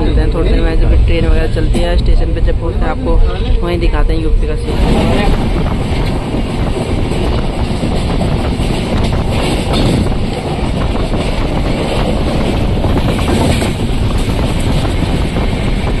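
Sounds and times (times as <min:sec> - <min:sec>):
train carriage rumbling on rails: 0:00.0 - 0:16.0
wind buffeting microphone: 0:00.0 - 0:16.0.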